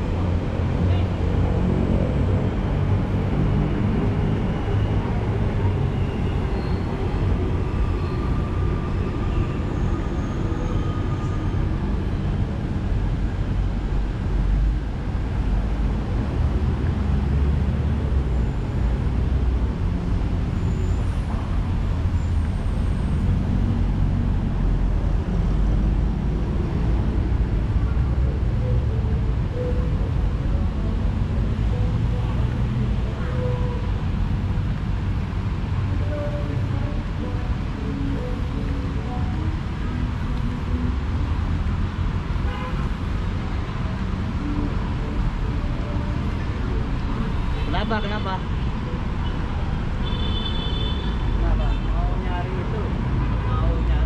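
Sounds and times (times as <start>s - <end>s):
city traffic rumble: 0.0s - 54.0s.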